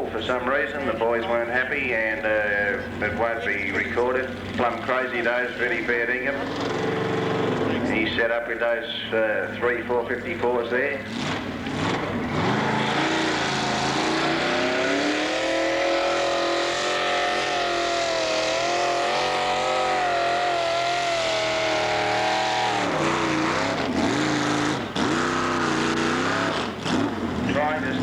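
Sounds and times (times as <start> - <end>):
pulling tractor engines revving: 0.0 - 28.0.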